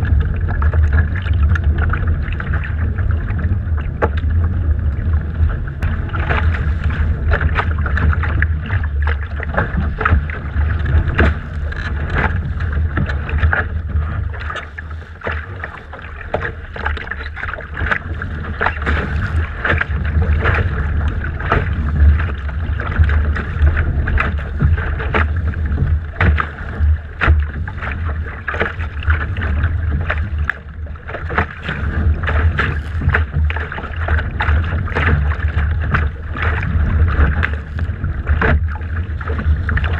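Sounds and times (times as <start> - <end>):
water splashing against hull: 0.0 - 39.9
wind rumbling on microphone: 0.0 - 39.9.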